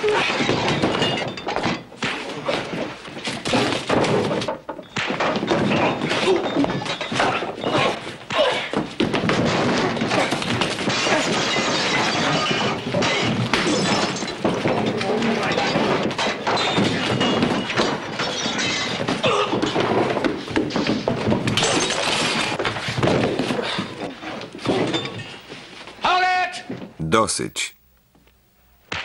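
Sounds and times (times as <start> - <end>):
punches and thuds: 0.0 - 25.0
things breaking and shattering: 0.0 - 25.5
furniture crashing: 0.0 - 25.8.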